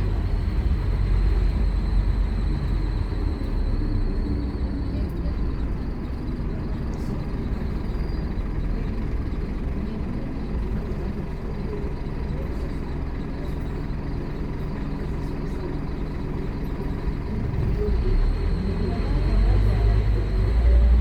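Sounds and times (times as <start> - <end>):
bus diesel engine running: 0.0 - 21.0
road noise: 0.0 - 21.0.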